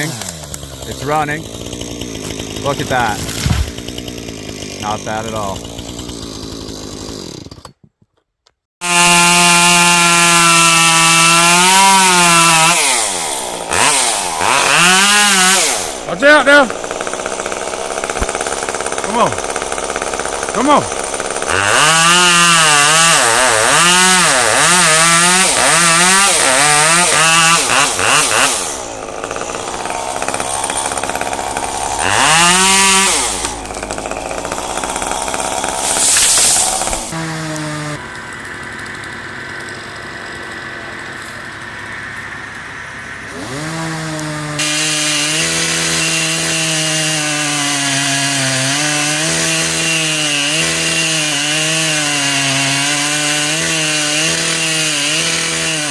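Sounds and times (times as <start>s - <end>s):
chainsaw engine revving: 0.0s - 7.6s, 8.8s - 55.9s.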